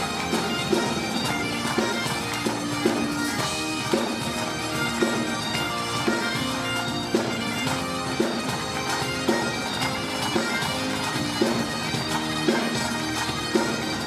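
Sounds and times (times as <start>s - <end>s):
reedy melody over drone: 0.0s - 14.0s
steady beat: 0.0s - 14.0s.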